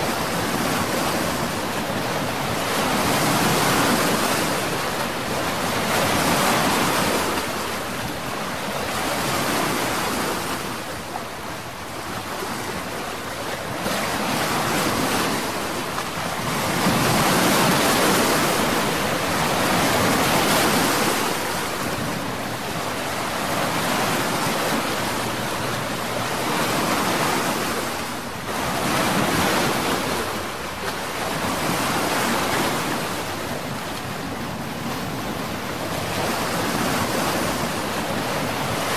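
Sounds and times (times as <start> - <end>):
rushing sea: 0.0 - 38.9.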